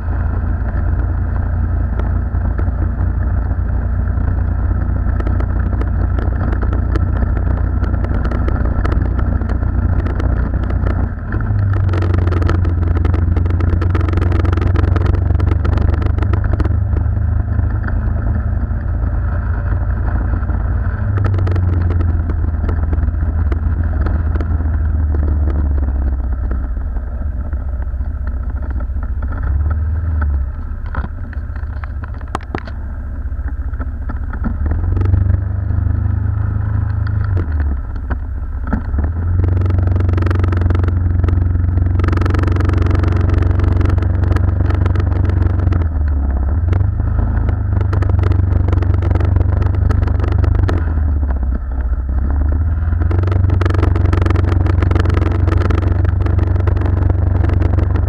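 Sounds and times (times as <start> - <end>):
small scooter engine running: 0.0 - 58.0
wind rumble on microphone: 0.0 - 58.0.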